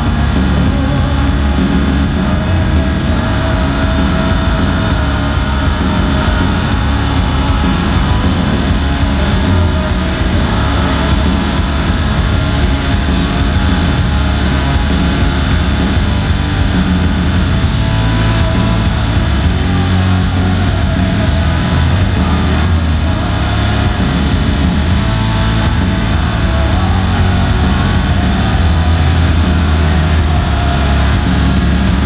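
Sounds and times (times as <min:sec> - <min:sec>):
bass guitar: 0:00.0 - 0:32.0
distorted electric guitar: 0:00.0 - 0:32.0
drums: 0:00.0 - 0:32.0
man singing: 0:00.0 - 0:32.0.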